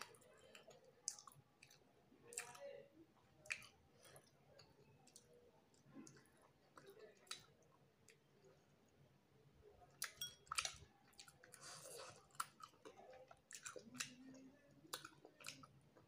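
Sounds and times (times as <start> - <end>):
wet chewing and mouth smacks: 0.0 - 2.7, 3.4 - 8.3, 10.0 - 16.0.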